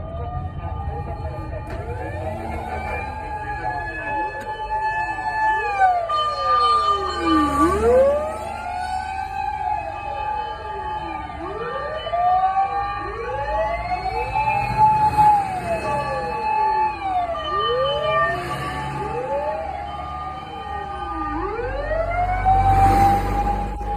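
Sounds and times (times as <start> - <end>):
fire engine sirens wailing: 0.0 - 23.9.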